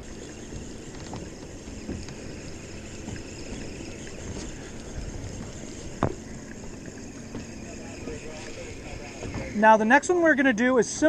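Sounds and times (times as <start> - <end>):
water noise around boat: 0.0 - 11.0
wind: 0.0 - 11.0.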